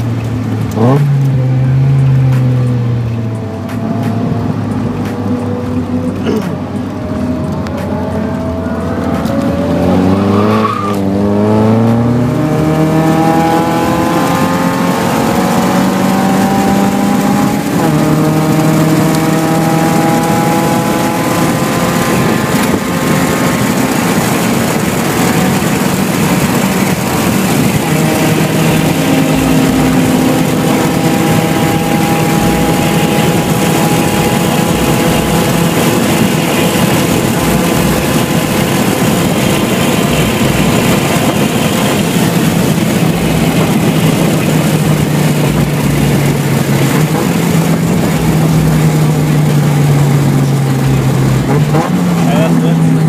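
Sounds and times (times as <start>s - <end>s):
car engine running: 0.0s - 53.0s
road and wind noise: 0.0s - 53.0s.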